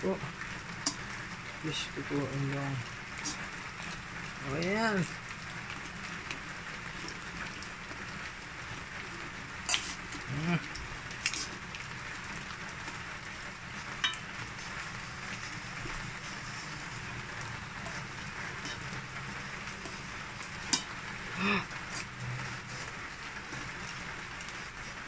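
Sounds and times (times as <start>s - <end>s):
prawns sizzling in a pan: 0.0s - 25.0s.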